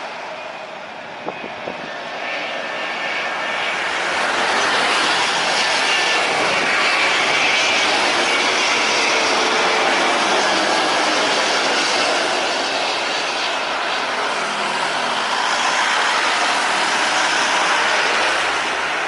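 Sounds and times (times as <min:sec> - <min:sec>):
airliner engines roaring: 0:00.0 - 0:19.0.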